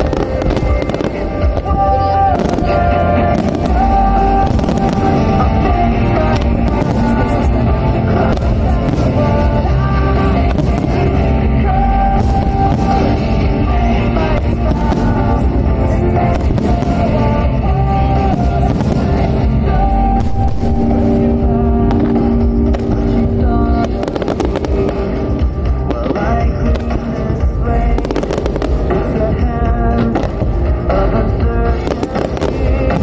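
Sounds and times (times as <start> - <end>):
fireworks bursting: 0.0 - 33.0
loud music: 0.0 - 33.0.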